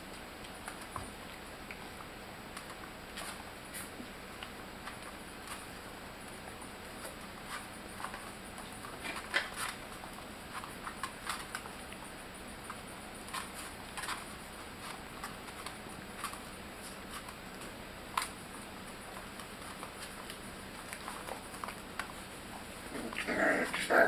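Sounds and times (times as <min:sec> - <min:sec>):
puppy paws tapping and scrabbling: 0:00.0 - 0:24.0.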